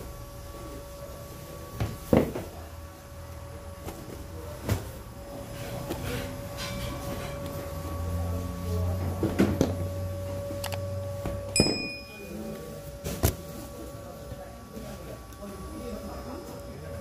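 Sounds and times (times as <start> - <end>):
deeper machine hum: 0.0 - 17.0
steady machine hum: 0.0 - 17.0.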